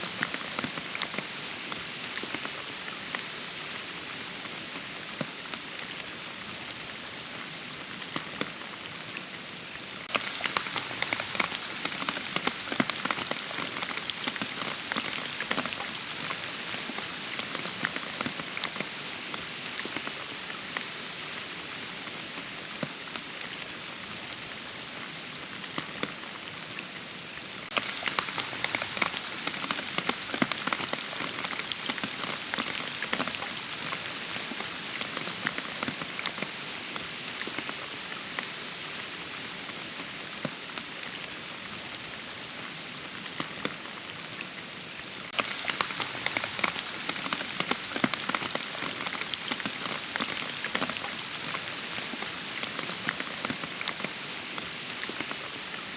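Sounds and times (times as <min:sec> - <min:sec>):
rain falling in a forest: 0:00.0 - 0:55.9
raindrops hitting close by: 0:00.0 - 0:55.9.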